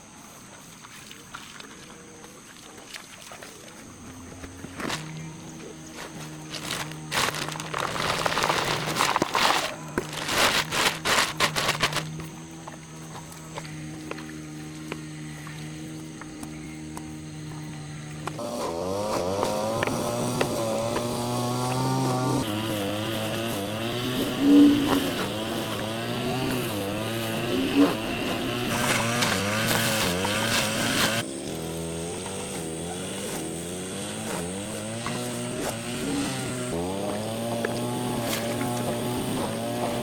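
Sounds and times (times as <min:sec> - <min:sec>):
small engine revving: 0:04.0 - 0:40.0.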